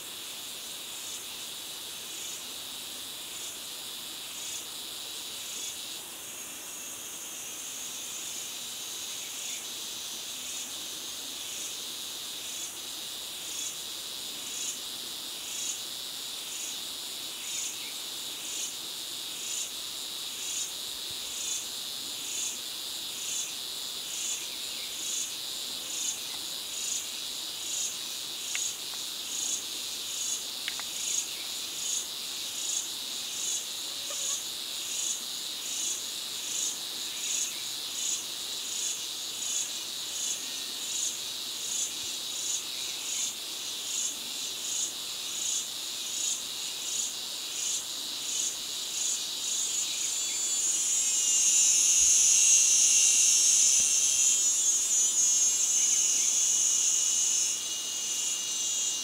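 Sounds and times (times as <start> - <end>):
insect pulsing chirp: 0.0 - 59.0
insects buzzing: 0.0 - 59.0.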